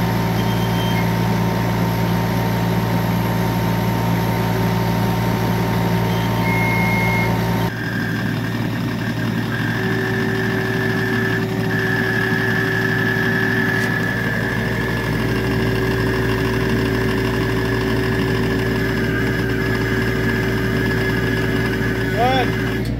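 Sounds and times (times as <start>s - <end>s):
excavator diesel engine running: 0.0s - 22.9s
steady high hydraulic whine: 0.0s - 22.9s.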